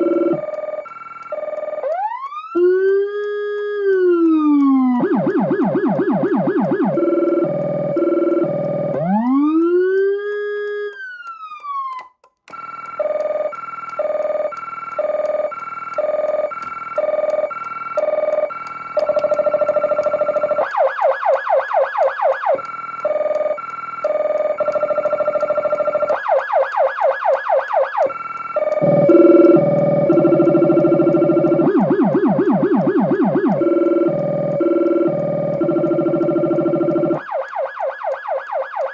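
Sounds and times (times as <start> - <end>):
emergency vehicle siren: 0.0 - 38.9.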